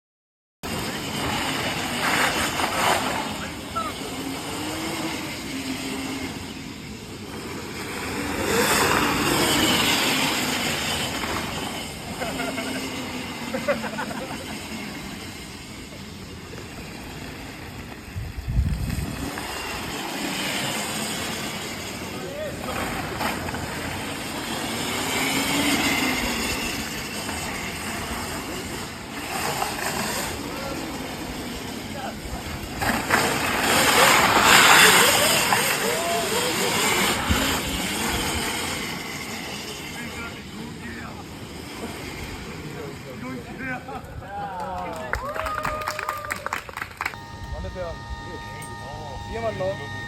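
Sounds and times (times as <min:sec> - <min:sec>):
electric race car driving past: 0:00.7 - 0:44.3, 0:44.9 - 0:50.0.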